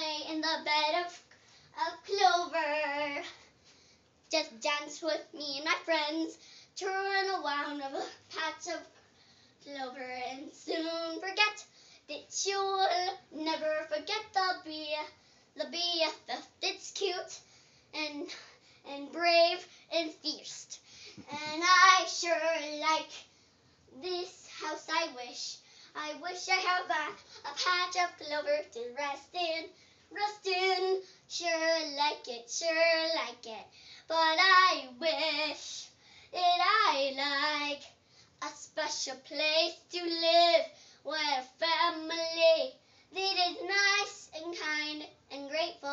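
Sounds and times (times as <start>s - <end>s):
girl singing unaccompanied: 0.0s - 3.6s, 4.2s - 45.9s.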